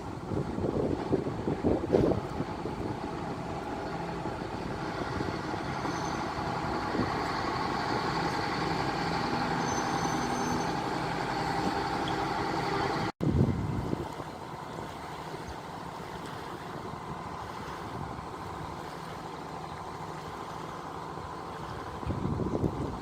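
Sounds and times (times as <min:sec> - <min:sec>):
diesel railcar engine drone: 0:00.0 - 0:23.0.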